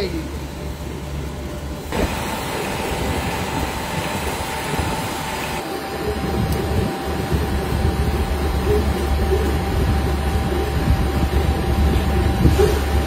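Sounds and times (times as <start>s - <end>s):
extrusion machine rumbling: 0.0s - 13.0s.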